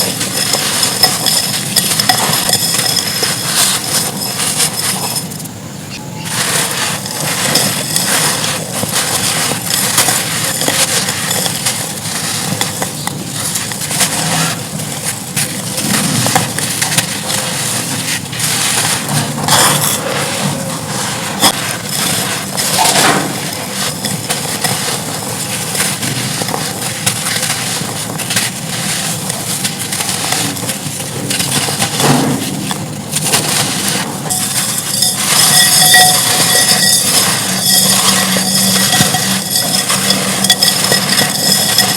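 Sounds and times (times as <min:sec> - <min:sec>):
dirt and clay crunching: 0:00.0 - 0:41.9.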